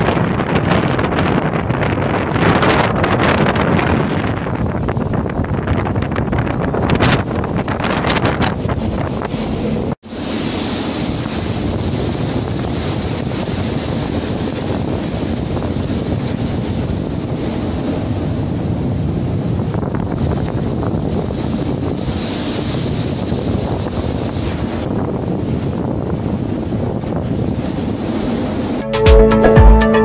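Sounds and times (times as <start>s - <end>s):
waves breaking around ship: 0.0s - 28.8s
wind buffeting microphone: 0.0s - 28.8s.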